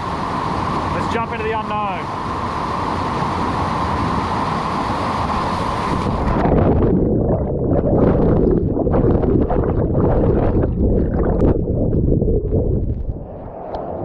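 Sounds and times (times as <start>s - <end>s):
muffled underwater rush: 0.1s - 14.0s.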